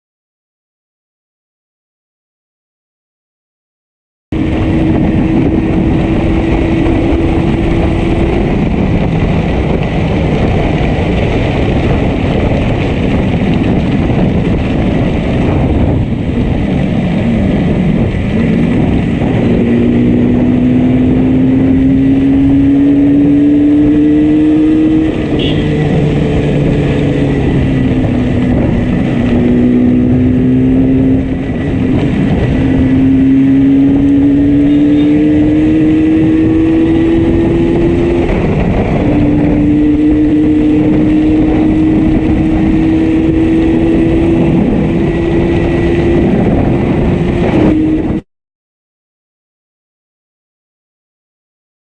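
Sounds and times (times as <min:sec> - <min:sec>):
road and wind rush: 0:04.3 - 0:48.2
two-stroke motorcycle engine: 0:04.4 - 0:48.1.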